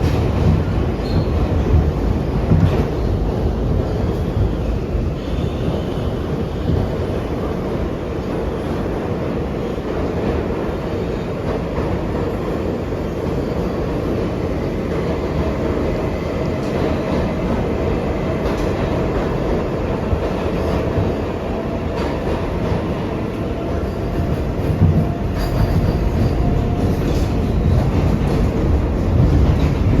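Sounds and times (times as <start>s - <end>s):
subway wheels rumbling on rail: 0.0s - 30.0s.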